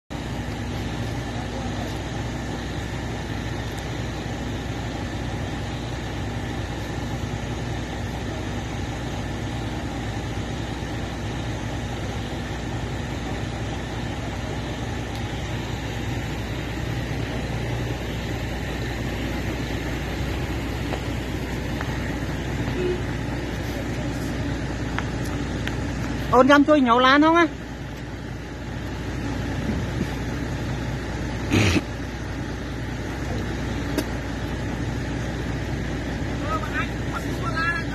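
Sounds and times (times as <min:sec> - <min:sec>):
heavy machinery engines droning: 0:00.1 - 0:37.9.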